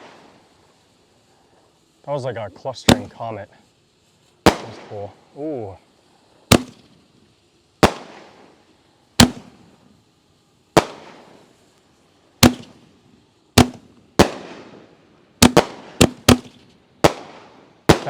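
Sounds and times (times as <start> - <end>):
fireworks booming: 0.0 - 3.6, 4.2 - 10.0, 10.7 - 11.7, 12.4 - 18.0.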